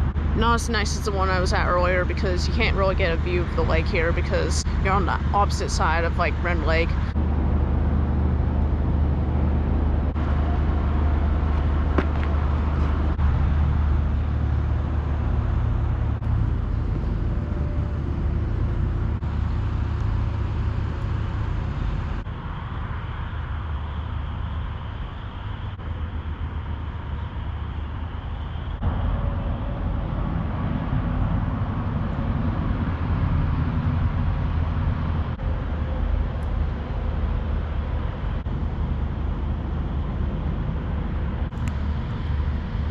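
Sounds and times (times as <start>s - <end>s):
vehicle road noise rumble: 0.0s - 42.9s.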